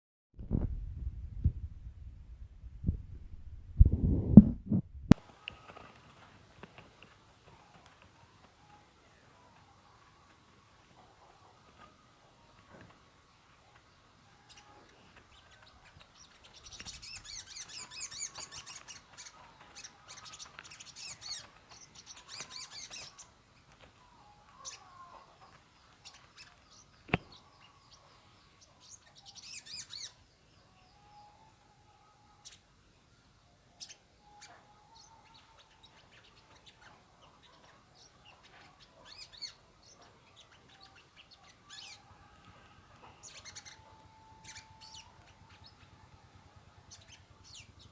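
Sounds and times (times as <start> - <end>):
small bird chirping: 7.6 - 32.7, 33.7 - 47.9.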